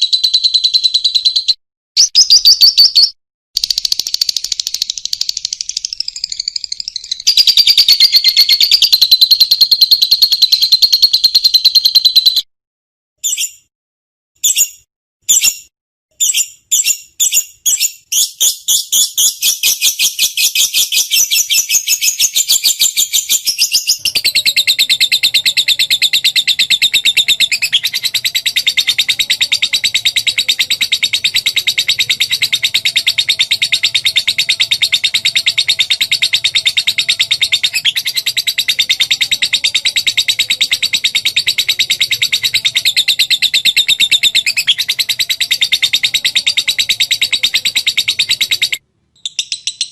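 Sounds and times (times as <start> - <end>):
lovebird chattering trill: 0.1 - 12.4, 16.2 - 49.9.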